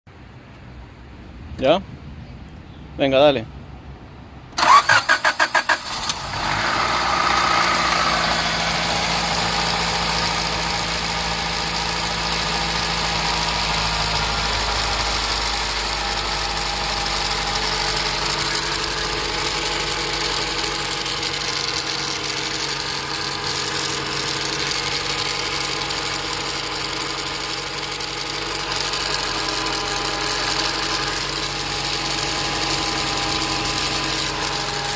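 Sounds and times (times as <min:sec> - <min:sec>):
car engine starting and idling: 0:04.4 - 0:34.9.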